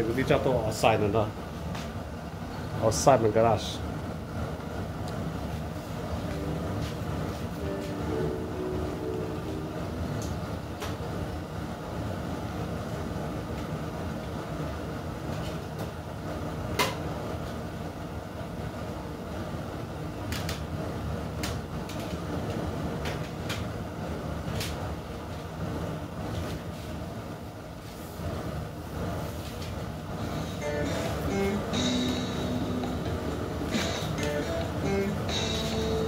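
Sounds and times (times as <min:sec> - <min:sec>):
gas burner rumbling: 0:00.0 - 0:36.0.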